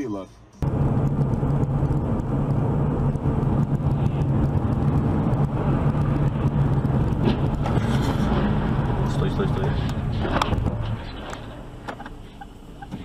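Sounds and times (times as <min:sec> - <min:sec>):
car engine drone: 0:00.0 - 0:13.0
tyre road rumble: 0:00.6 - 0:13.0.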